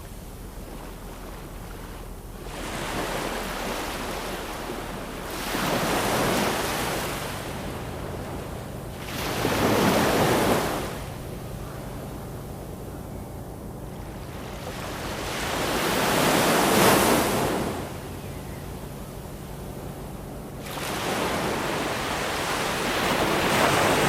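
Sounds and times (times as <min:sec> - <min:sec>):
ocean waves breaking on shore: 0:00.0 - 0:24.0.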